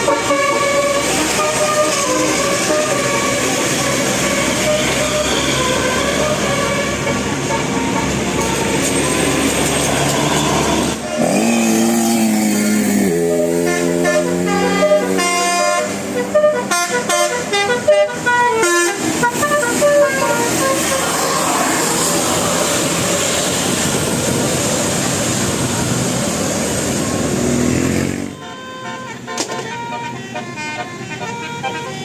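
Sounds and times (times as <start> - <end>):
bus musical air horn: 0.0 - 24.1, 27.9 - 32.0.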